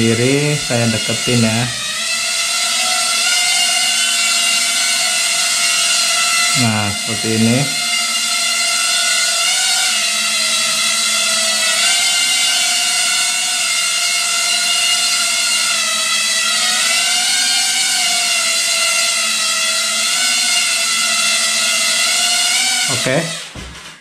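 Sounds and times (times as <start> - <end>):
quadcopter motor whine: 0.0 - 24.0.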